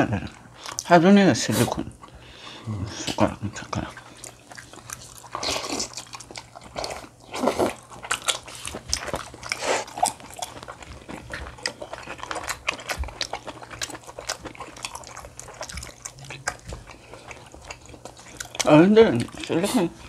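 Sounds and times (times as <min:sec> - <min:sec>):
chewing and mouth noises: 0:00.2 - 0:00.9, 0:01.6 - 0:20.0.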